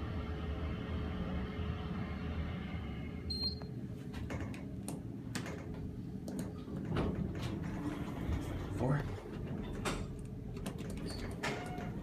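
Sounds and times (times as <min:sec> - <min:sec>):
elevator car rumbling: 0:00.0 - 0:12.0.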